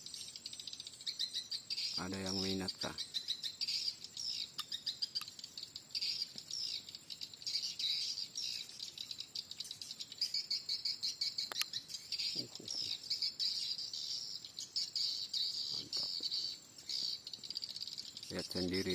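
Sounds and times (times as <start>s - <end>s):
swiftlets twittering: 0.0s - 9.3s, 11.4s - 18.9s.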